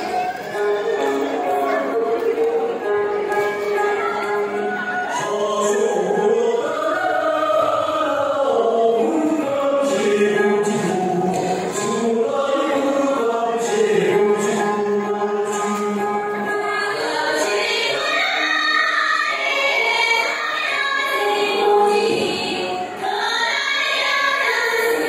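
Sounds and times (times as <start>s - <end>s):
group of people singing: 0.0s - 25.0s.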